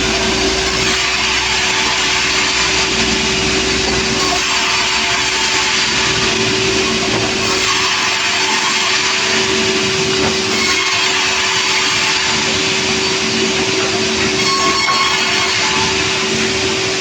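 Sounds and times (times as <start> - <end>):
motor-driven wood saw running: 0.0 - 17.0.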